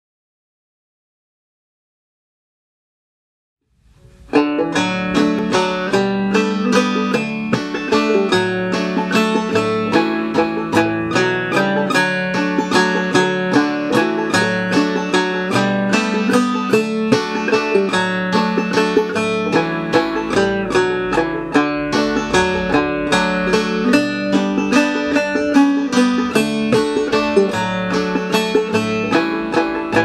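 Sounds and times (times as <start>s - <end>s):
banjo waltz melody: 3.9s - 30.0s
backing guitar: 4.0s - 30.0s.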